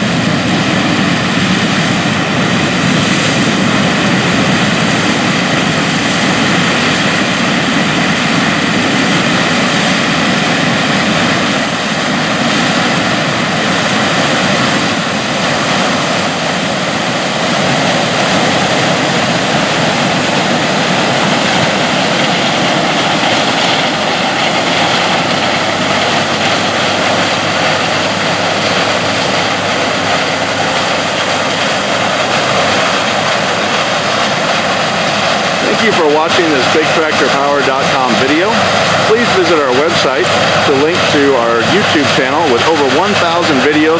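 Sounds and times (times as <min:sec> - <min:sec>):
combine harvester droning: 0:00.0 - 0:43.9.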